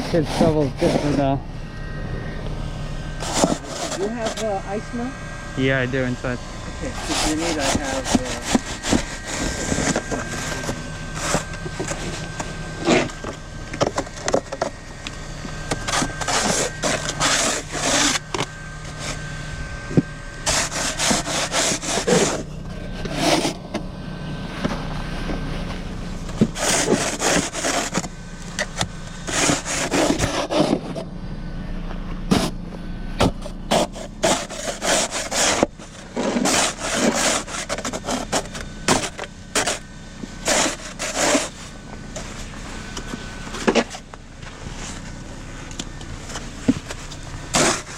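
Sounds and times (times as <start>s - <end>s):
snow shovel scraping snow: 0.0s - 1.4s, 2.9s - 31.1s, 31.7s - 47.9s
steady low hum: 0.0s - 47.9s.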